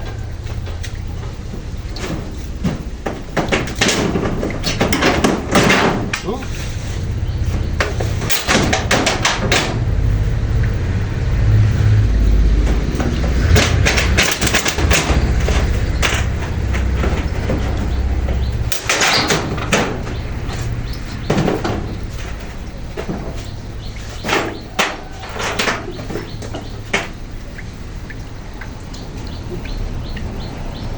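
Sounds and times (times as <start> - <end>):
corrugated metal sheets rattling: 0.0 - 30.9
wind rumbling on microphone: 0.0 - 30.9.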